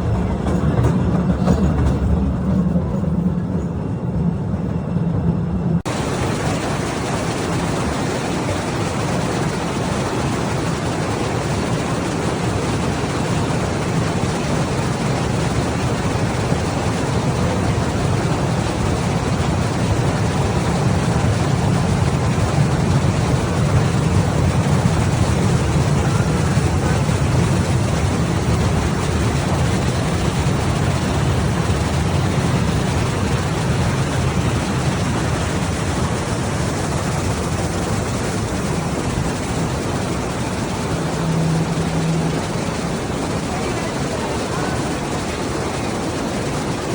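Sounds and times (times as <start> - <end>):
train rumbling on track: 0.0 - 46.9.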